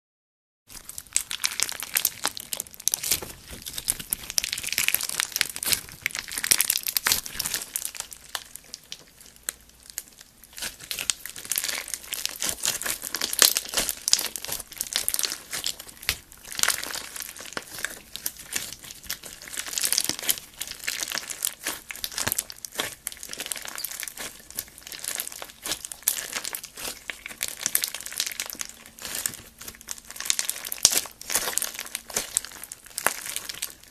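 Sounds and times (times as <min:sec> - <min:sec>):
slime crackling and popping: 0:00.7 - 0:33.9.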